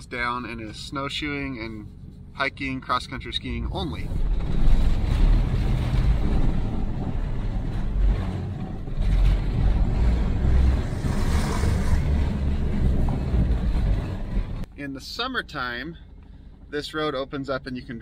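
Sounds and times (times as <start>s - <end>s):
low engine and drivetrain rumble: 0.0s - 18.0s.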